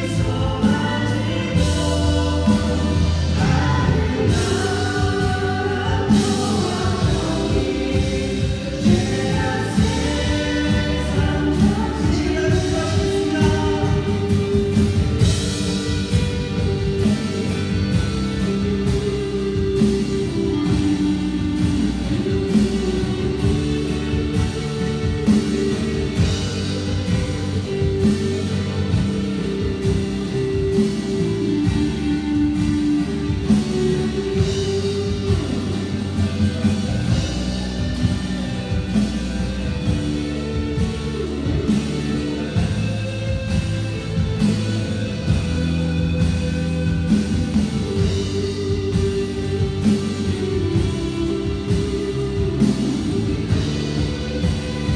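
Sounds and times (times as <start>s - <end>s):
drum kit beat: 0.0s - 54.9s
guitar: 0.0s - 54.9s
worship band music: 0.0s - 54.9s.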